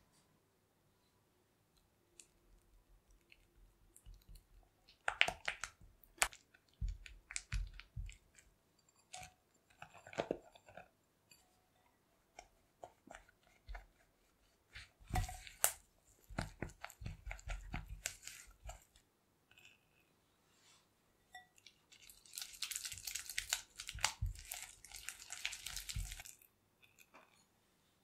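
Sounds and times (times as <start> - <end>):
spatula squishing and scraping butter: 2.2 - 20.1, 21.3 - 27.4.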